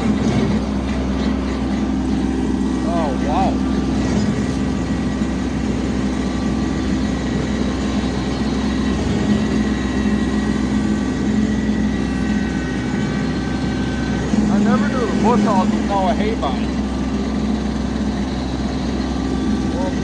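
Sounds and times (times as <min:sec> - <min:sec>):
tractor engine running under load: 0:00.0 - 0:20.0
faint high whine: 0:02.1 - 0:20.0.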